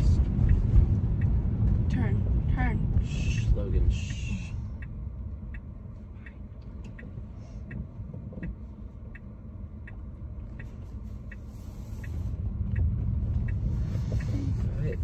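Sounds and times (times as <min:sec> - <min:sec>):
low cabin rumble: 0:00.0 - 0:15.0
turn signal ticking: 0:00.0 - 0:15.0.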